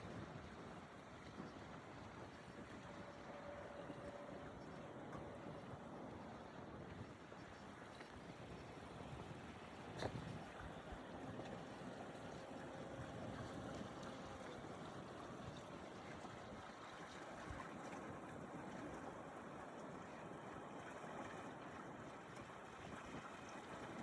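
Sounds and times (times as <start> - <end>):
faint outdoor background noise: 0.0 - 24.0.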